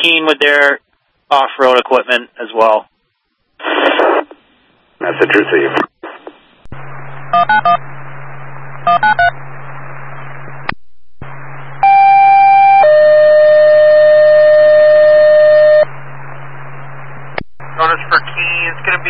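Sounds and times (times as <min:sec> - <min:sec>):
two-tone radio page: 0:00.0 - 0:02.9, 0:03.6 - 0:13.1, 0:15.7 - 0:19.0
radio hiss and hum: 0:00.0 - 0:11.9, 0:15.2 - 0:19.0.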